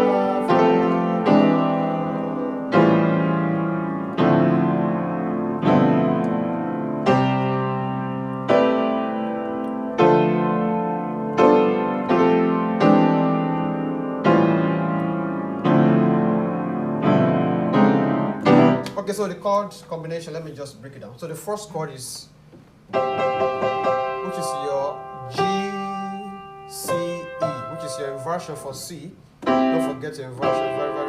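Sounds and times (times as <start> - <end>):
electric keyboard piano chords: 0.0 - 20.5, 22.4 - 31.0.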